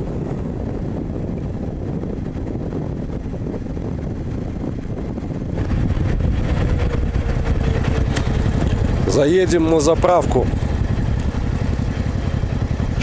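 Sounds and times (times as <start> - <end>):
motorcycle running: 0.0 - 13.0
wind on microphone: 0.0 - 13.0.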